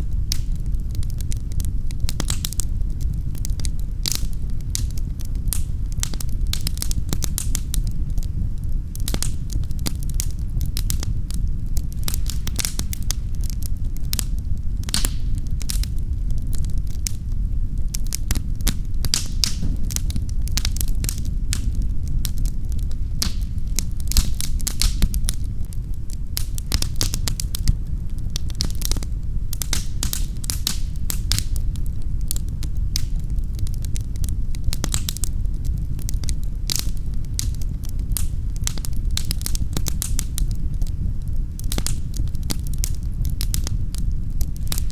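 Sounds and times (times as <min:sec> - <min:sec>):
low fire rumble: 0:00.0 - 0:44.9
wood fire crackling and popping: 0:00.0 - 0:44.9.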